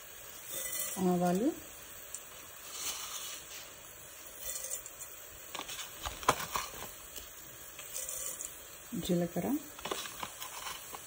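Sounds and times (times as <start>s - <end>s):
faint background hiss: 0.0s - 11.0s
seeds popping in hot oil: 0.0s - 11.0s.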